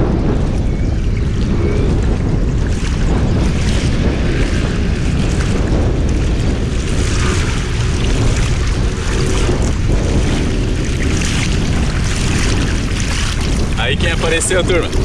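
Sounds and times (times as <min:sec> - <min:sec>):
surf rushing: 0:00.0 - 0:15.0
wind buffeting microphone: 0:00.0 - 0:15.0.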